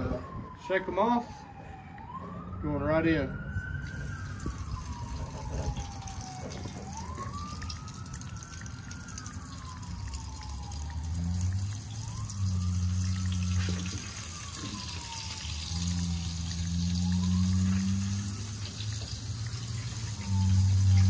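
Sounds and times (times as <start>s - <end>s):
distant siren wailing: 0.0s - 21.0s.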